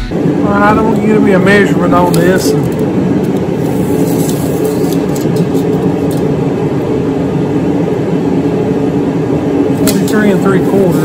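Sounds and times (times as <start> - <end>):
loud low drone: 0.0 - 11.0.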